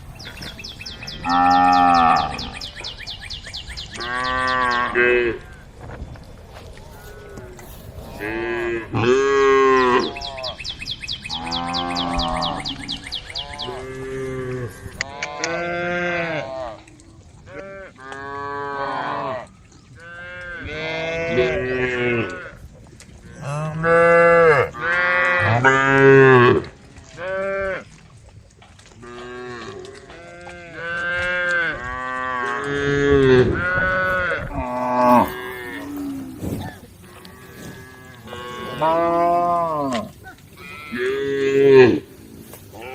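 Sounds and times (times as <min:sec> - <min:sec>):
cows mooing: 0:00.2 - 0:02.9, 0:03.9 - 0:05.7, 0:06.5 - 0:10.7, 0:11.3 - 0:16.8, 0:17.5 - 0:22.6, 0:23.3 - 0:27.9, 0:29.0 - 0:42.9.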